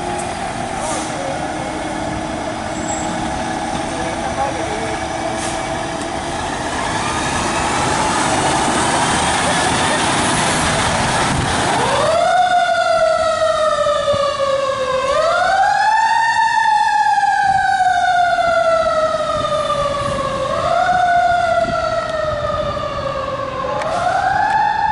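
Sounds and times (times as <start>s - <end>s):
fire engine siren wailing: 0.0s - 24.9s.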